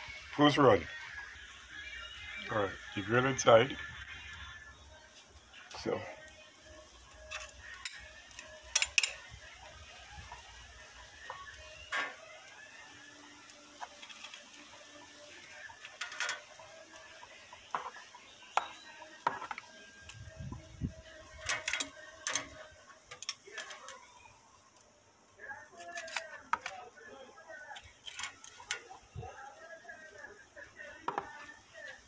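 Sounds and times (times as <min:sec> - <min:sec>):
metal grill grate and utensils clinking: 0:05.7 - 0:32.0.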